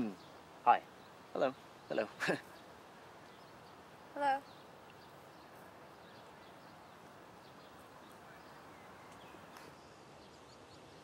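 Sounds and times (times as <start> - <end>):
distant birds chirping: 0.0 - 11.0
low steady hiss: 0.0 - 11.0.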